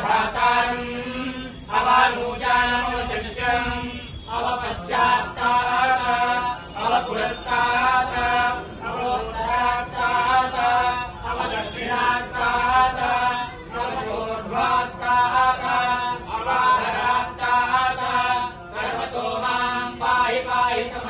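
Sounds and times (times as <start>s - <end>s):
mantra chanting: 0.0s - 21.0s.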